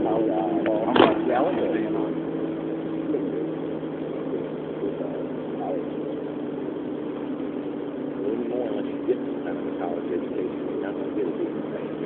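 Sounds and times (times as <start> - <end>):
muffled indistinct voices: 0.0 - 6.3, 8.0 - 12.0
steady low hum: 0.0 - 12.0.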